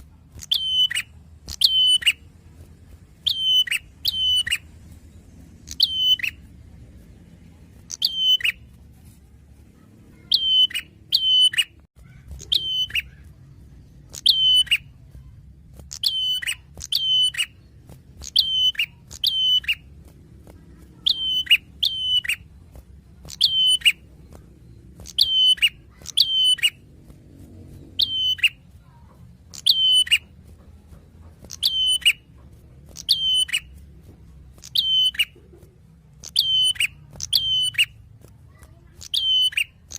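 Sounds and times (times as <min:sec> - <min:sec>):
bird chirping: 0:00.0 - 0:09.2, 0:09.8 - 0:39.9.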